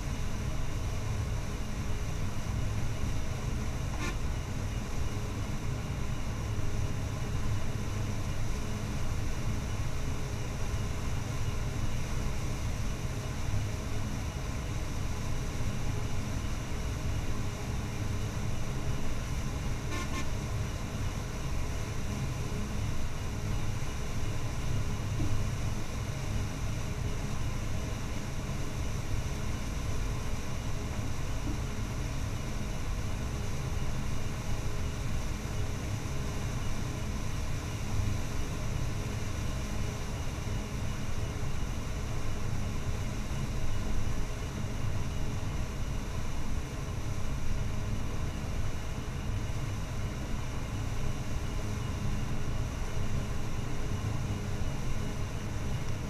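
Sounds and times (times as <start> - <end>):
faint high whine: 0.0 - 56.0.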